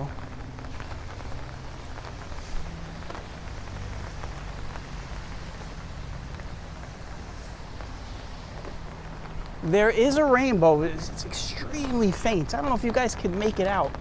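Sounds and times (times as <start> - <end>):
rain on pavement: 0.0 - 14.0.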